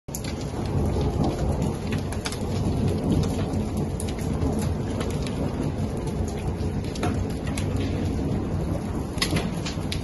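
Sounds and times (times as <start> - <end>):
hail hissing and ticking: 0.1 - 10.0
low rumble: 0.3 - 10.0.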